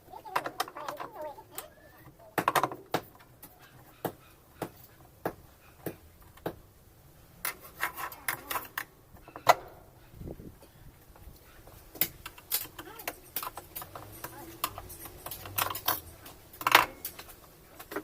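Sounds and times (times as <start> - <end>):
hand tools clicking and knocking: 0.1 - 6.6, 7.4 - 9.8, 11.1 - 18.0.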